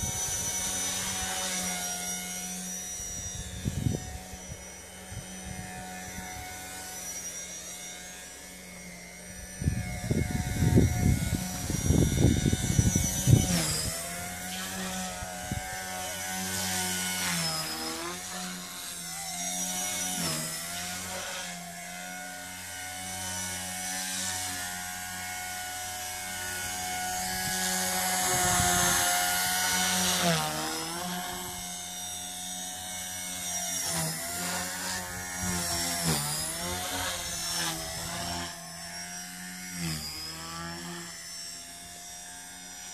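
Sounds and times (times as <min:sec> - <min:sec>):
model helicopter whine: 0:00.0 - 0:42.9.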